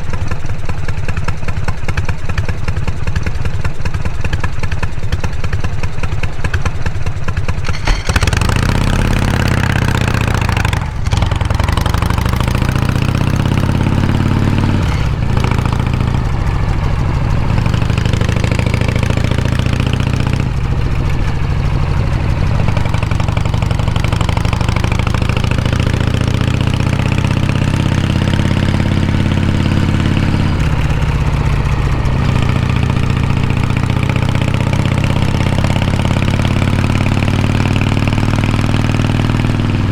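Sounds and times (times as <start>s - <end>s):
motorcycle engine revving: 2.0s - 39.9s.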